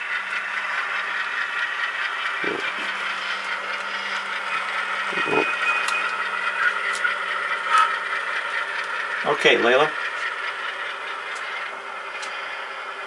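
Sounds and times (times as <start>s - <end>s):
model locomotive engine hum: 0.0s - 13.0s.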